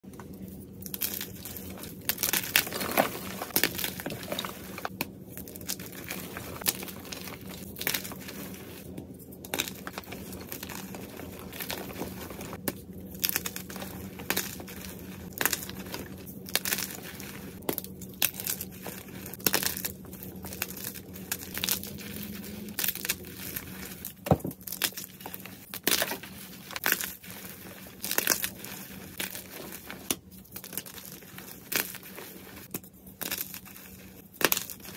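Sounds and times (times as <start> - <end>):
chalk blocks crunching by hand: 0.9 - 8.8, 9.5 - 34.9.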